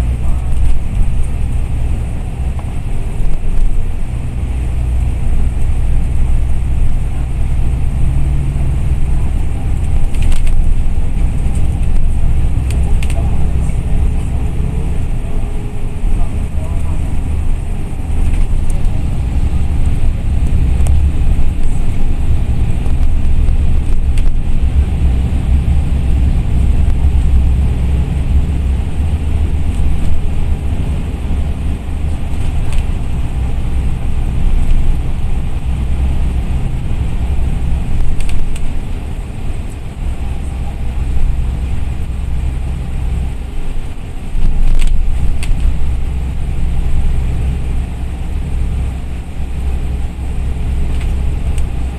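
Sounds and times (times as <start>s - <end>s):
bus engine and tyre rumble: 0.0s - 51.9s.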